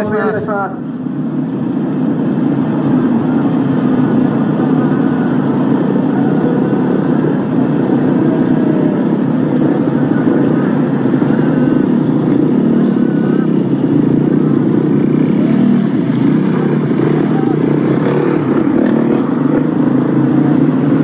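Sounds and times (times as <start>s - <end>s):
motocross bike engines droning: 0.0s - 21.0s.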